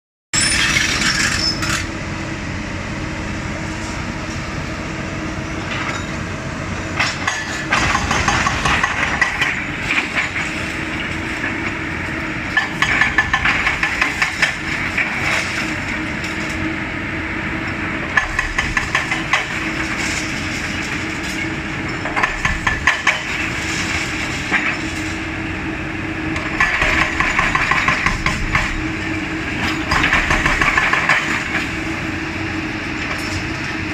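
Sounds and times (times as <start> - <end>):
excavator diesel engine running: 0.4 - 33.9.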